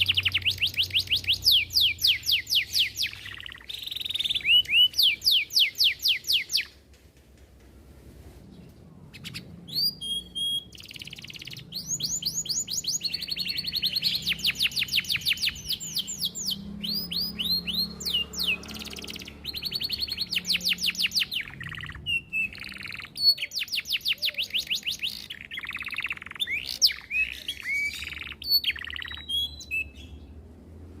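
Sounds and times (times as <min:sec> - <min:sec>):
canary singing trills: 0:00.0 - 0:06.8, 0:09.0 - 0:30.4.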